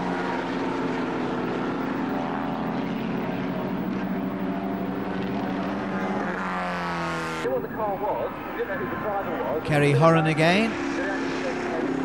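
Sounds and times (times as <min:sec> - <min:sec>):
racing car engines running: 0:00.0 - 0:12.0.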